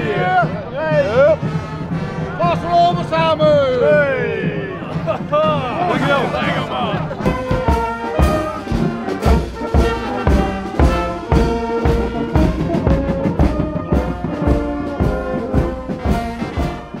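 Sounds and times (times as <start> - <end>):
bass drum beat: 0.0 - 17.0
brass band playing: 0.0 - 17.0.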